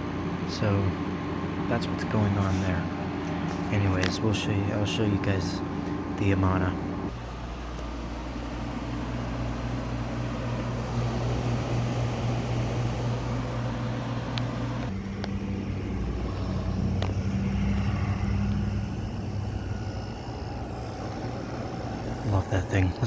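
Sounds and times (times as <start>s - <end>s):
air conditioners humming: 0.0s - 23.0s
fan and compressor drone: 0.0s - 23.0s.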